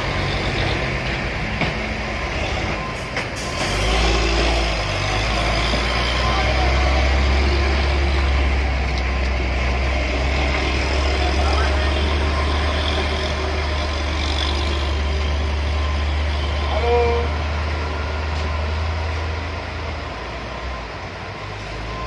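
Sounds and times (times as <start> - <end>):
dump truck engine rumbling: 0.0 - 22.0.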